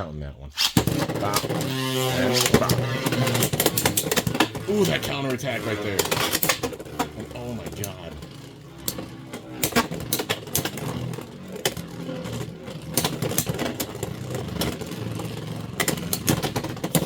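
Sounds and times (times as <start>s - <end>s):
spinning tops clacking together: 0.6s - 17.0s
spinning tops whirring: 0.6s - 17.0s.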